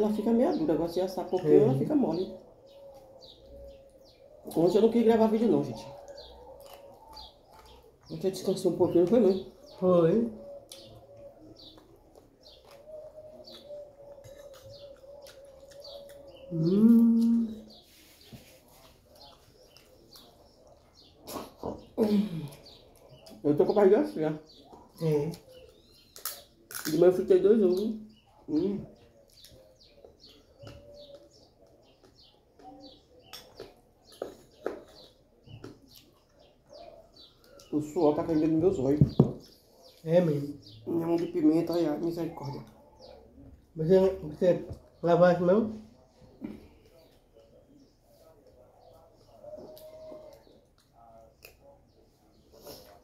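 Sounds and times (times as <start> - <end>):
small bird chirping: 0.0 - 53.0.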